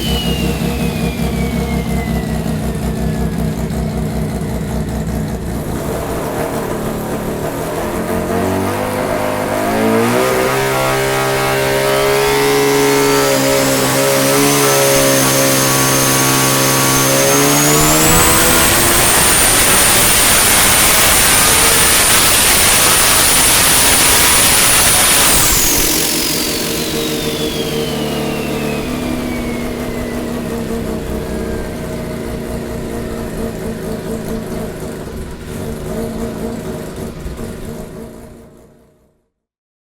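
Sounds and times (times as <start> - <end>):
turbo whine: 0.0 - 38.4
rotary engine revving: 0.0 - 38.8.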